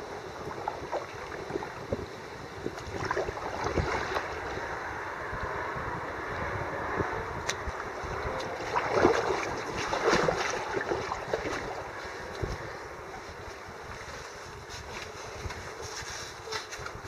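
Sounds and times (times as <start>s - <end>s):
water splashing around kayak: 0.0s - 17.0s
wind rumbling on microphone: 0.0s - 17.0s.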